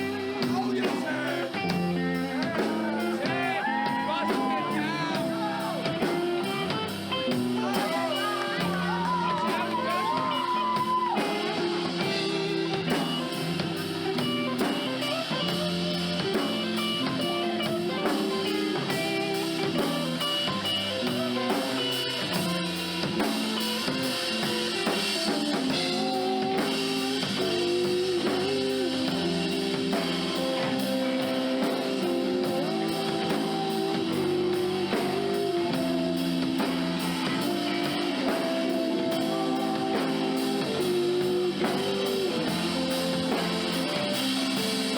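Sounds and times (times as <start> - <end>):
drum kit steady beat: 0.0 - 44.9
electric guitar playing: 0.0 - 44.9.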